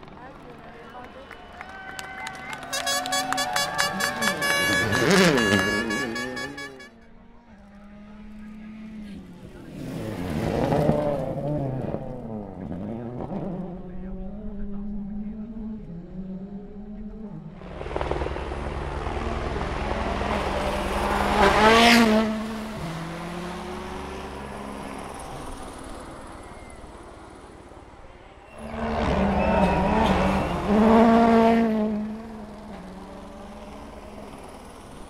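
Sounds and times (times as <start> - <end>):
rally cars passing at speed: 0.0 - 35.0.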